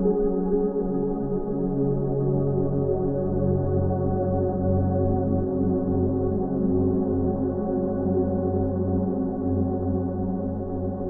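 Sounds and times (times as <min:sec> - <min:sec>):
ambient music with held tones: 0:00.0 - 0:11.0.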